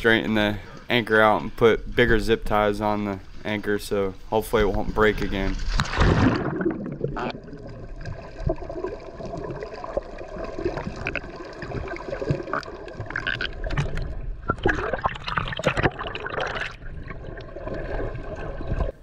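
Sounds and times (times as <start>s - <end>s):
water gurgling and sloshing: 0.0s - 19.0s.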